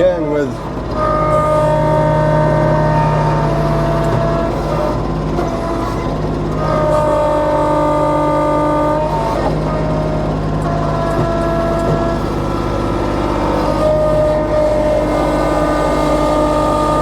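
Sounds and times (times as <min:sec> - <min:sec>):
diesel tractor running under load: 0:00.0 - 0:17.0
whine shifting in pitch: 0:00.0 - 0:17.0.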